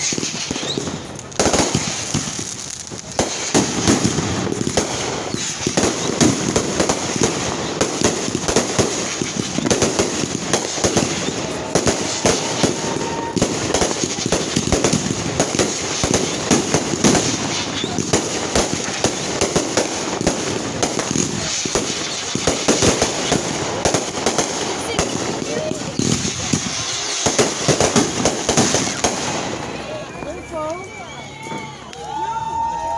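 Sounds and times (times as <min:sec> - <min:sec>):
fireworks bangs and crackling: 0:00.0 - 0:32.9.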